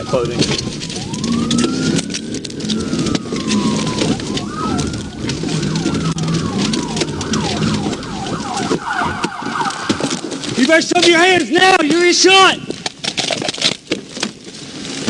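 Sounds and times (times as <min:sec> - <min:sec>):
police siren wailing and yelping: 0:00.0 - 0:12.4
car road noise: 0:00.0 - 0:15.0.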